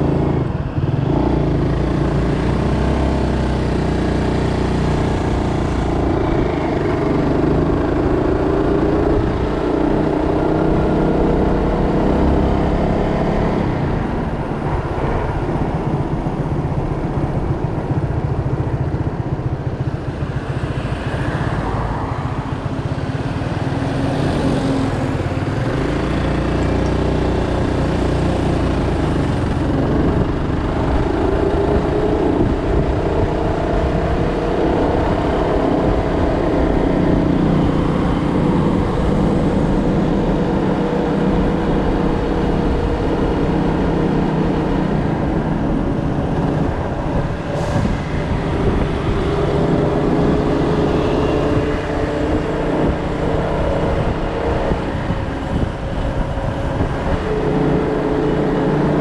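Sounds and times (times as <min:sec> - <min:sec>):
vehicle engines running: 0:00.0 - 0:59.0.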